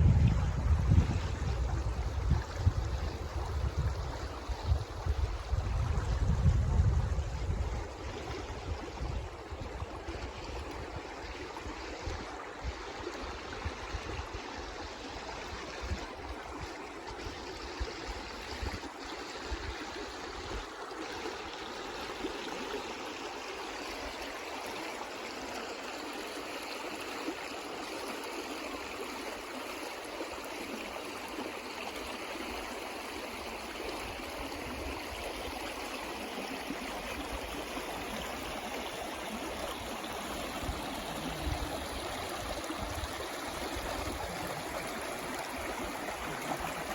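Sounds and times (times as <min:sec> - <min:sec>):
water flowing in a stream: 0:00.0 - 0:46.9.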